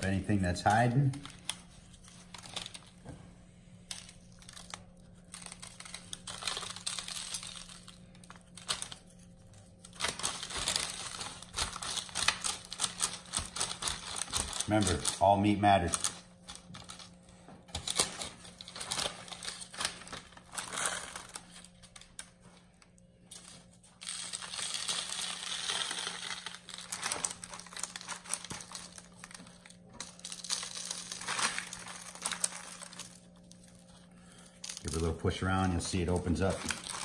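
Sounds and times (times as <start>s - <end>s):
paper rustling and crinkling: 0.7s - 3.2s, 3.9s - 37.0s.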